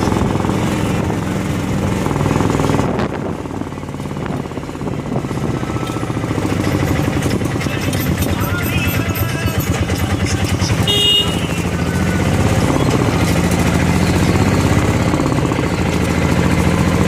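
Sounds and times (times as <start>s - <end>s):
small engine rattling pulse: 0.0s - 17.0s.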